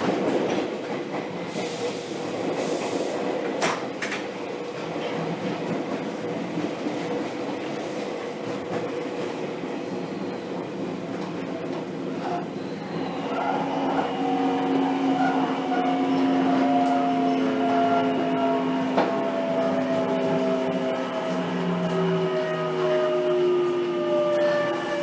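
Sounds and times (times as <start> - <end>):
train rail and running noise: 0.0 - 25.0.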